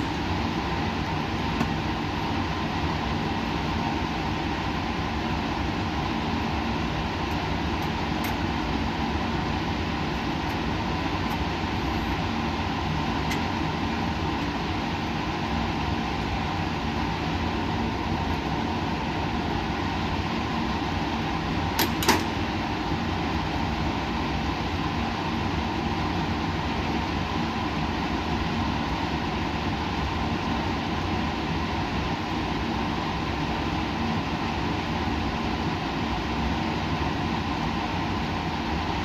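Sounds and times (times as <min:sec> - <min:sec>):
machinery hum and hiss: 0:00.0 - 0:39.0.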